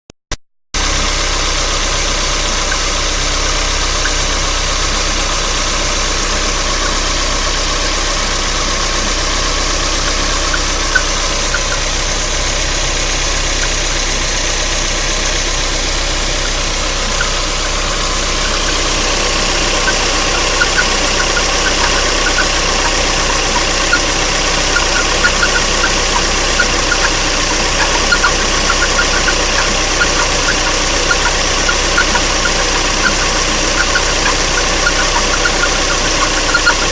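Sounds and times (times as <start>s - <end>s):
car engine running: 0.8s - 36.9s
engine ticking: 0.8s - 36.9s.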